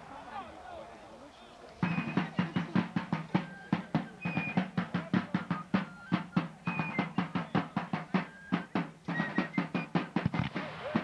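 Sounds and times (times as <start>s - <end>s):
field drum strokes: 1.8s - 11.0s.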